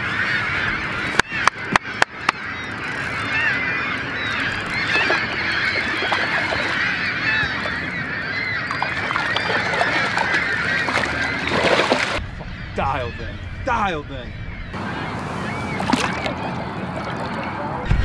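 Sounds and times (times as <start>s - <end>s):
flock of birds calling: 0.0s - 17.9s.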